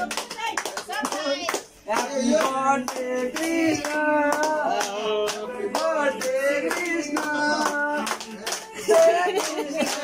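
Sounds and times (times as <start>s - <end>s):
hands clapping in time: 0.0s - 10.0s
men singing together: 1.9s - 10.0s.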